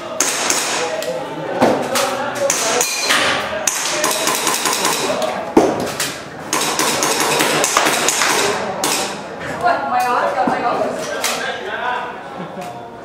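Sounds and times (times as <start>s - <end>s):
voices in background: 0.0s - 13.0s.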